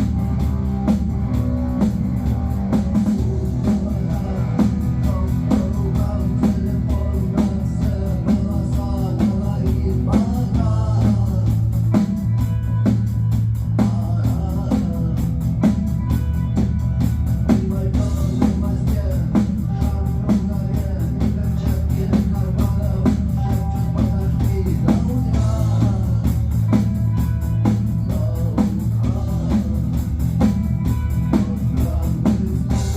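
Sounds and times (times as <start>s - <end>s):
rock music: 0.0s - 32.9s.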